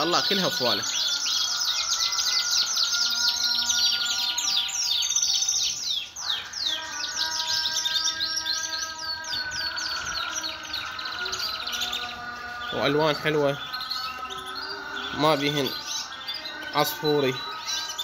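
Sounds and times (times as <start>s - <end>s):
canaries trilling and chirping: 0.0s - 18.0s
canaries' long held notes: 0.0s - 18.0s.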